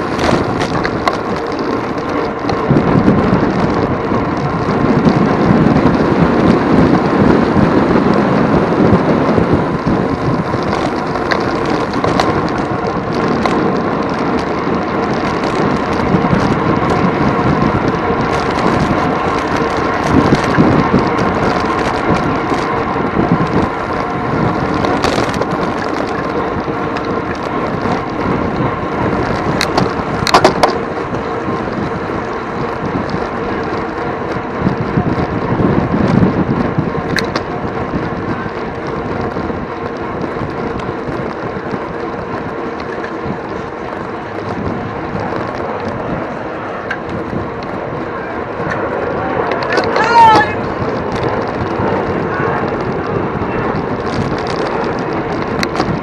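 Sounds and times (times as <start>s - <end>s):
road rumble: 0.0s - 56.0s
sharp bike clicks: 0.0s - 56.0s
wind rush on microphone: 0.0s - 56.0s.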